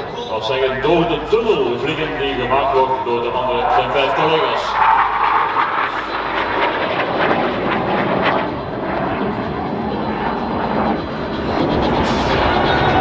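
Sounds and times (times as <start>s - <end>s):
jet aircraft rushing overhead: 0.0s - 13.0s.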